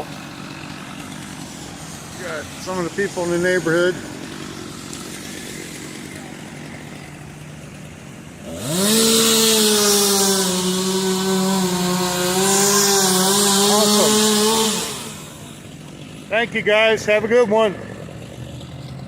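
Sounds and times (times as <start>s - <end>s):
chainsaw cutting tree: 0.0s - 19.0s.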